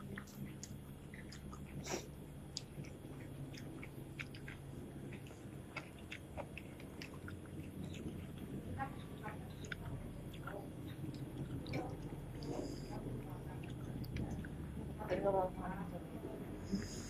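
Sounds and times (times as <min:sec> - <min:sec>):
chewing crispy fried food: 0:00.0 - 0:15.1
low steady hum: 0:00.0 - 0:17.0.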